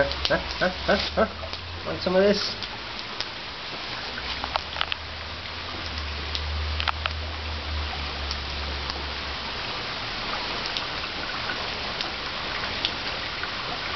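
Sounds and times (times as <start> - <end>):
drops ticking nearby: 0.0 - 13.9
heavy rain on wet paving: 0.0 - 13.9.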